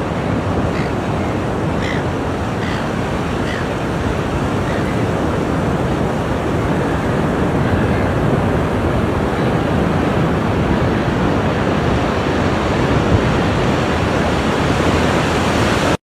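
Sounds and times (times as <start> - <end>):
ocean waves washing in: 0.0 - 16.0.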